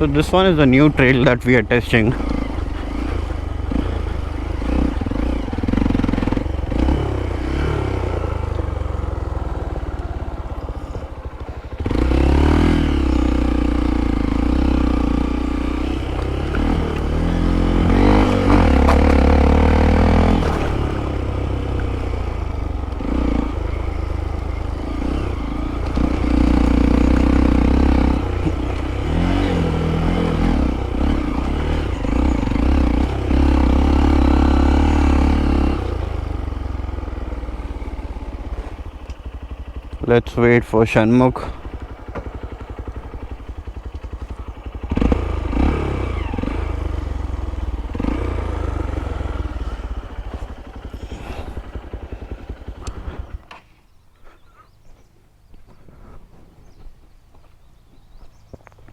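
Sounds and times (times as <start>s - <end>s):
motorcycle clatter: 0.0s - 53.8s
motorcycle engine revving: 0.0s - 58.9s.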